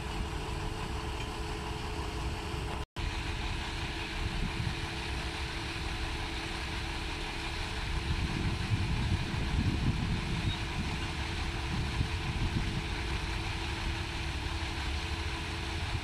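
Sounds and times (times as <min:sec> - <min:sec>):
crane engine rumbling: 0:00.0 - 0:16.0.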